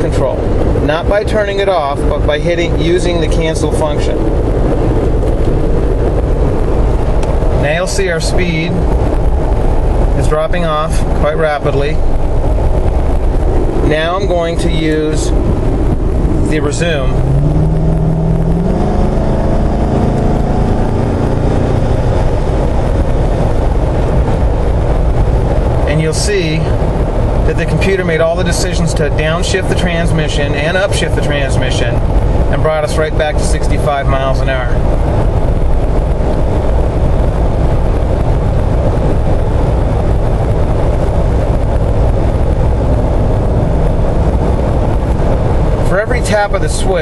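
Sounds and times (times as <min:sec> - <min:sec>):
car engine accelerating: 0:00.0 - 0:47.0
road and wind noise: 0:00.0 - 0:47.0.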